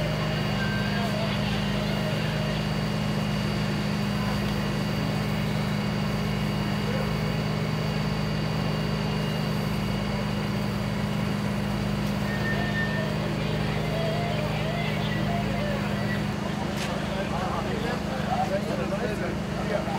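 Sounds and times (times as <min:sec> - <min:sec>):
engine running steadily: 0:00.0 - 0:19.9.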